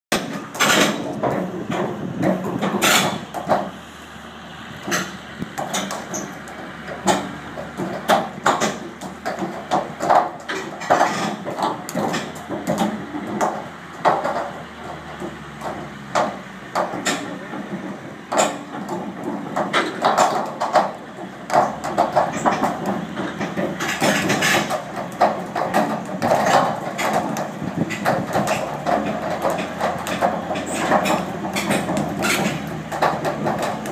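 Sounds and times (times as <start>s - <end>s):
knocks of wood and metal: 0.1s - 3.8s, 4.8s - 33.9s
forklift engines under load: 0.1s - 33.9s.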